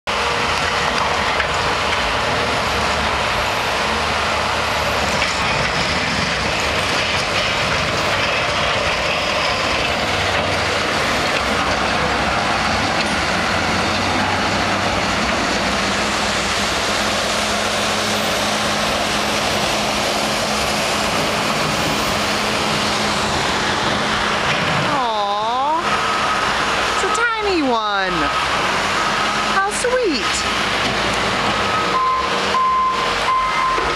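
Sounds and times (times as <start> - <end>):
diesel loaders running: 0.1 - 33.9.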